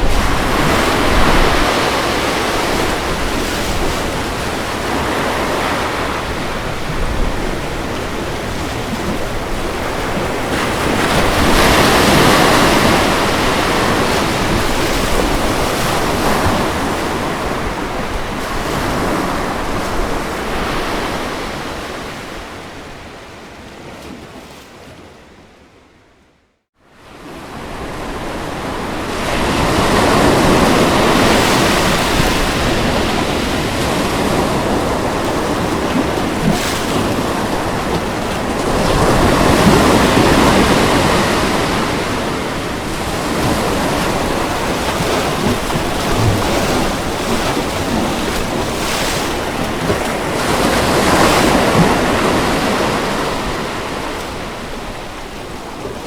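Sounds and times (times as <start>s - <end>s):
ocean waves breaking: 0.0s - 25.7s, 27.0s - 56.0s.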